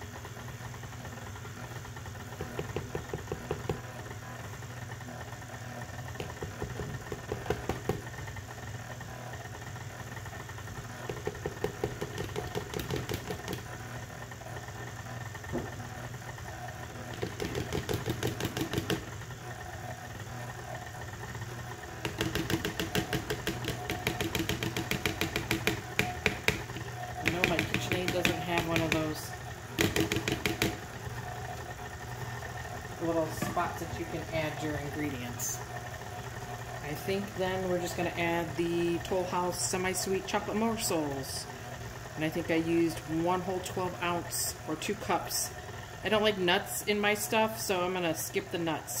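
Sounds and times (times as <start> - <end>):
stand mixer running: 0.0 - 49.0.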